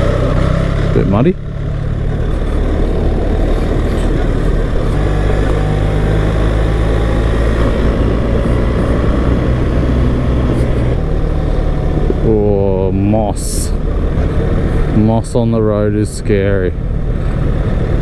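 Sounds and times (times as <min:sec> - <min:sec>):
motorcycle engine running: 0:00.0 - 0:18.0
tyres on dirt track: 0:00.0 - 0:18.0
wind noise: 0:01.8 - 0:18.0.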